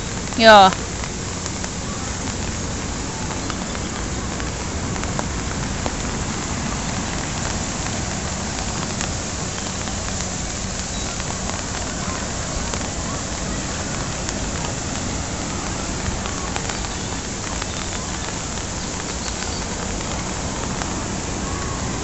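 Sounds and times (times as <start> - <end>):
water falling on stone basin: 0.0 - 22.0.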